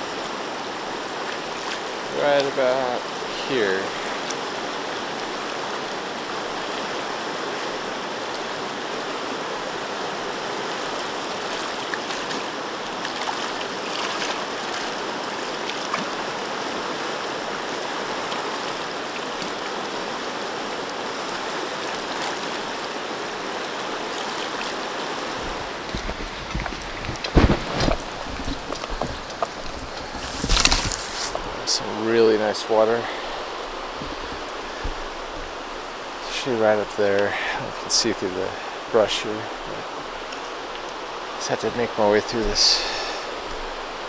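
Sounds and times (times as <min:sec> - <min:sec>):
river rushing over rocks: 0:00.0 - 0:44.0.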